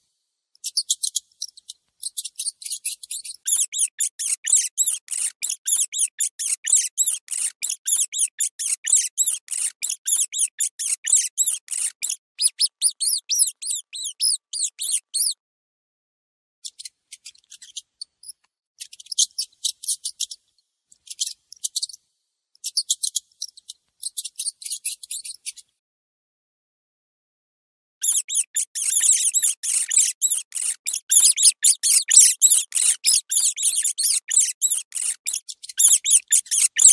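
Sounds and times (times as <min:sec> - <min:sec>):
mouse squeaking: 0:00.6 - 0:15.4, 0:16.6 - 0:20.4, 0:22.6 - 0:25.6, 0:28.0 - 0:36.9.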